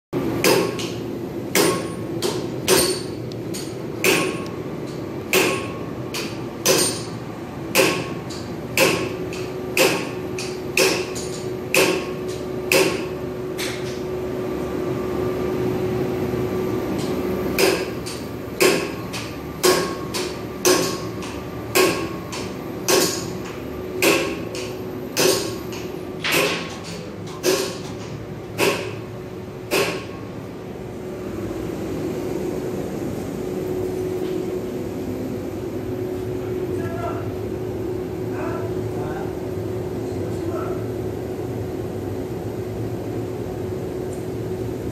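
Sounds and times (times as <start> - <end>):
steady hum: 0.2 - 44.9.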